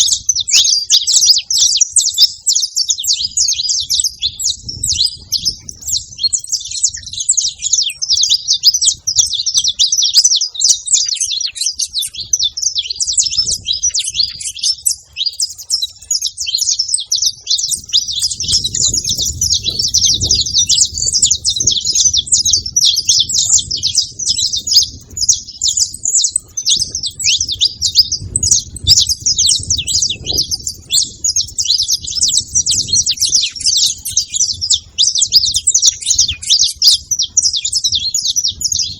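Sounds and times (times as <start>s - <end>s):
finches chirping and twittering: 0.0s - 38.9s.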